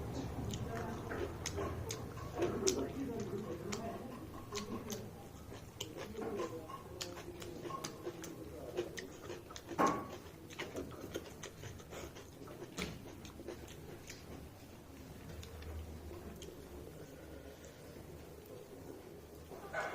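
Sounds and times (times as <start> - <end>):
person chewing: 0.1 - 19.9.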